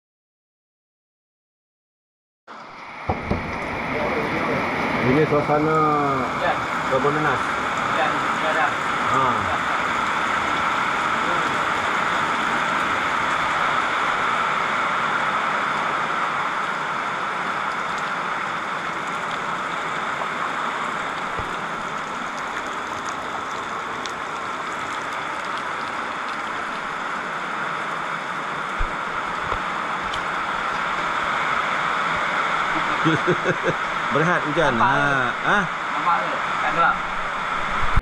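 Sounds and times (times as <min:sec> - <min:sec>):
rain on a metal roof: 0:02.5 - 0:38.0.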